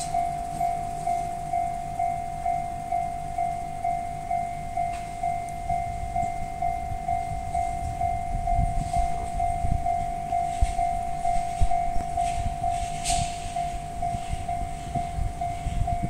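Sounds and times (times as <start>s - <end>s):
level crossing bell ringing: 0.0s - 16.0s
train rumble: 0.0s - 16.0s.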